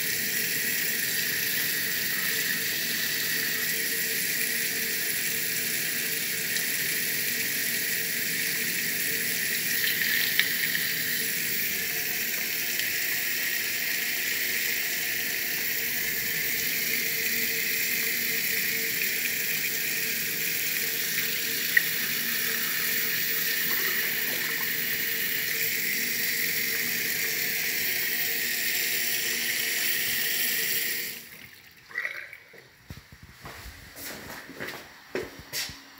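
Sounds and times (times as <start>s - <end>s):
water running into a washbasin: 0.0s - 32.9s.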